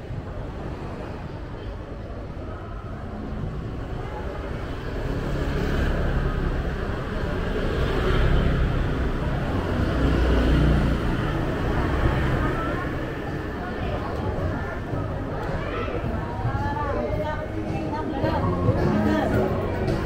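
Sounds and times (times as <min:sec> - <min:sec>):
vehicles passing close by: 0:00.0 - 0:20.0.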